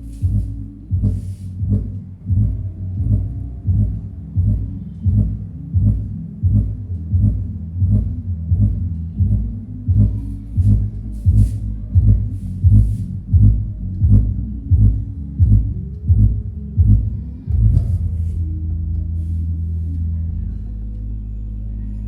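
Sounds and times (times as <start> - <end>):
electronic music through subwoofer: 0.0 - 22.0.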